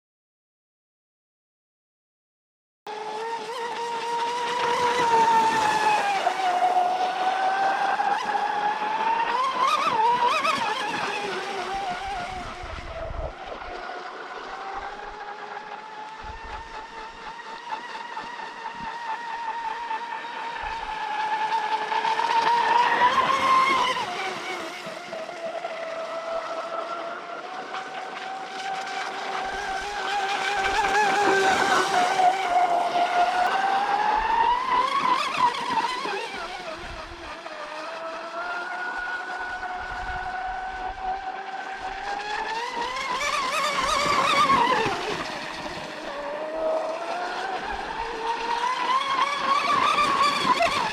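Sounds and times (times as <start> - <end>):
rc boat electric motor whining: 2.9 - 50.9.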